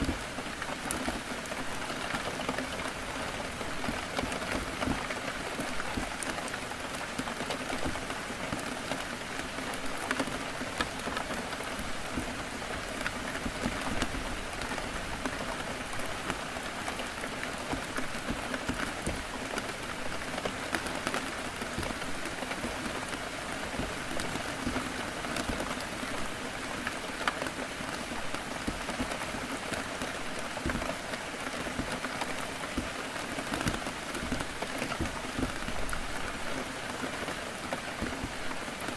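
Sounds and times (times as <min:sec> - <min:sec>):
raindrops tapping on glass: 0:00.0 - 0:38.9.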